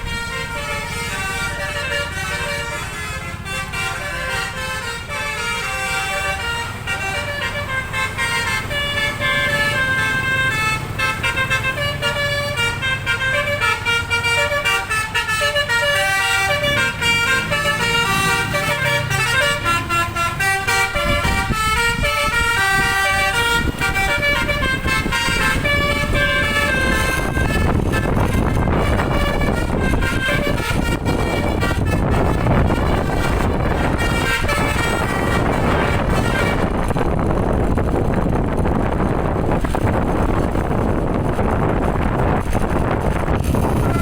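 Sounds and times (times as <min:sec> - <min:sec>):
bus horn playing tune: 0:00.0 - 0:44.0.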